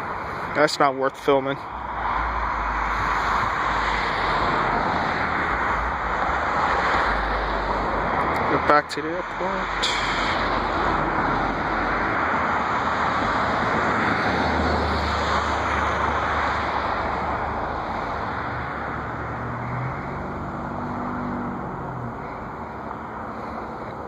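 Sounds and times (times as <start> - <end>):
rushing vehicle noise: 0.0 - 24.0
low engine hum: 1.6 - 24.0.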